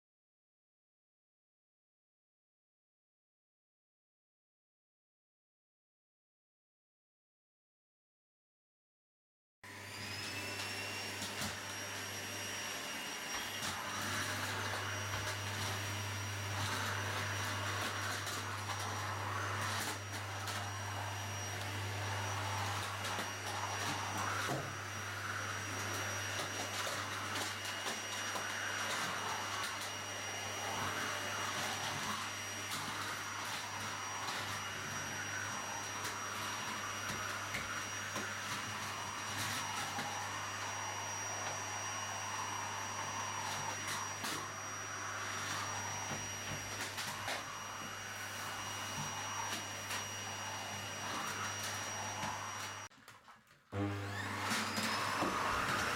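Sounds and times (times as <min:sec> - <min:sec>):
vacuum cleaner running: 0:09.6 - 0:55.9.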